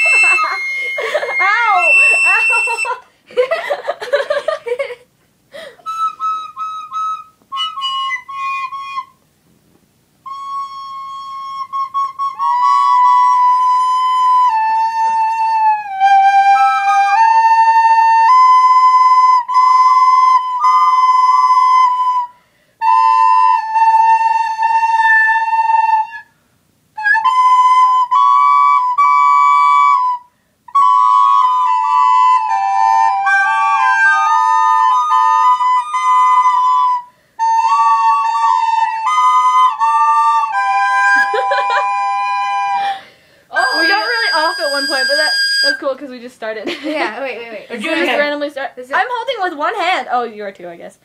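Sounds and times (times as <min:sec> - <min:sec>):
recorder playing held notes: 0:00.0 - 0:03.1, 0:05.8 - 0:09.2, 0:10.2 - 0:26.3, 0:27.0 - 0:46.0.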